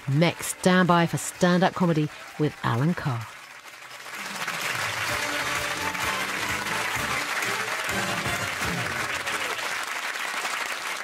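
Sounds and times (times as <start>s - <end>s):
television theme music: 0.0s - 10.2s
audience applauding: 0.0s - 11.0s.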